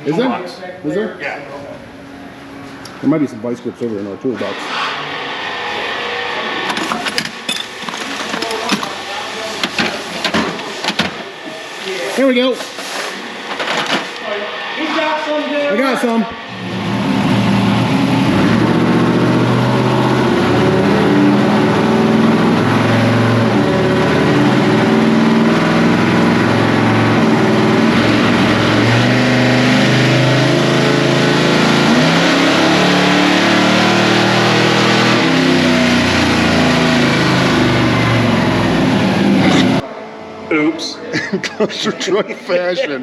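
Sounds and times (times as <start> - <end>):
loud engine on dyno rollers: 3.8 - 12.3, 13.1 - 41.0.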